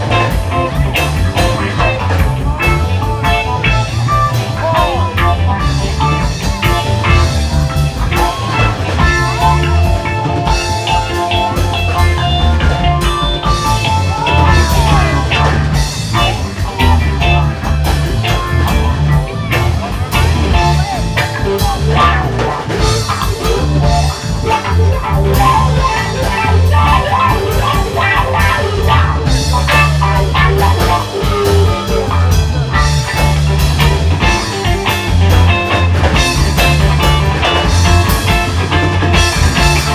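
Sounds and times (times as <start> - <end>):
psychedelic blues rock music: 0.0 - 39.9.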